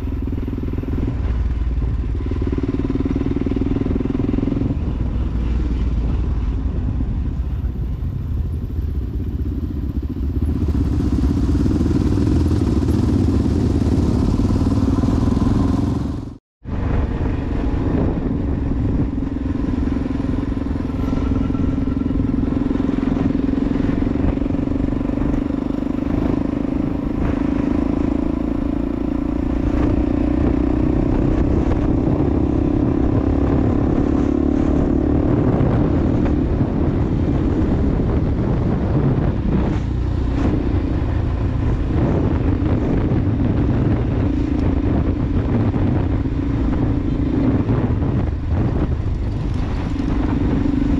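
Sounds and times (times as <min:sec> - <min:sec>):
motorcycle engine cruising: 0:00.0 - 0:50.9
road noise: 0:00.0 - 0:50.9
wind noise: 0:00.0 - 0:50.9.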